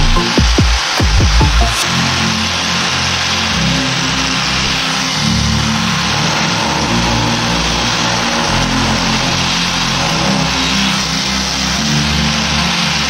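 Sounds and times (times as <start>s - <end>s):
angle grinder grinding plastic: 1.7s - 13.0s.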